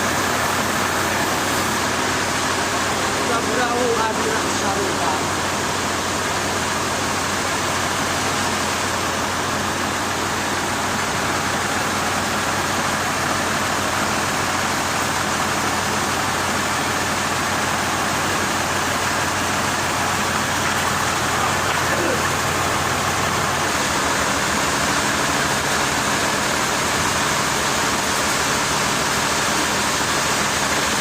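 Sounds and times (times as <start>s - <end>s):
low machinery hum: 0.0s - 31.0s.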